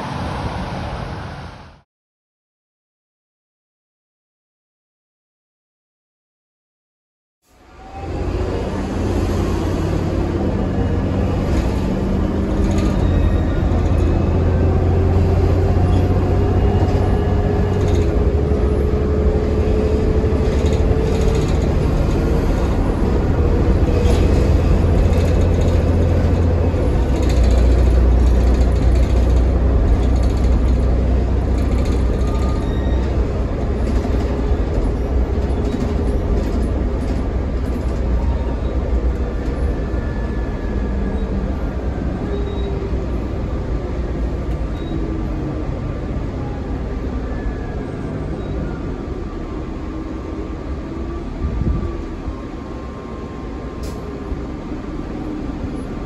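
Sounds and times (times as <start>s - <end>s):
road noise: 0.0s - 1.8s, 7.5s - 56.0s
bus diesel engine rumble: 7.6s - 56.0s.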